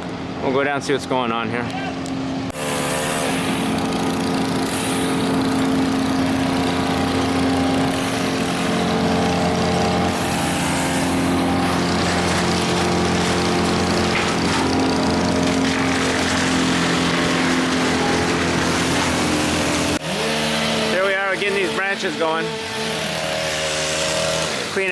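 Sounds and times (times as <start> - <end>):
small petrol engine running: 2.5 - 24.9.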